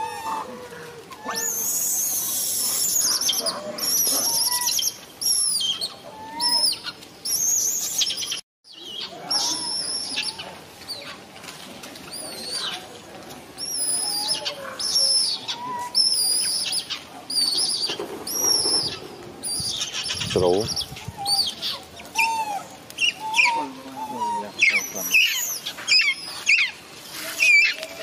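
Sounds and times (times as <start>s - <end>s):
lower animal calls: 0.0s - 8.1s, 13.6s - 28.0s
high-pitched chirping animal calls: 1.2s - 11.1s, 13.6s - 28.0s.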